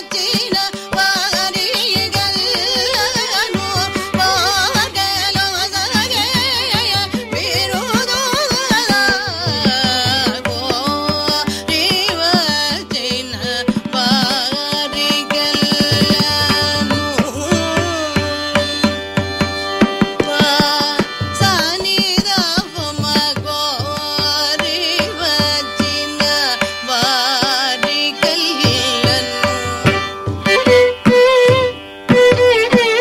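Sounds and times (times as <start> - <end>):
person singing ornamented melody: 0.0 - 18.9, 20.2 - 30.7
mridangam drum strokes: 0.0 - 33.0
violin: 0.0 - 33.0.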